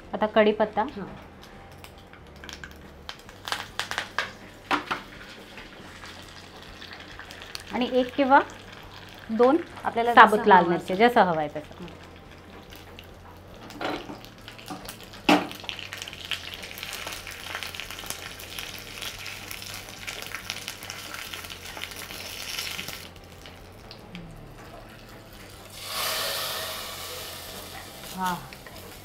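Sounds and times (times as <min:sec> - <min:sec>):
spices sizzling in hot oil: 0:01.8 - 0:29.0.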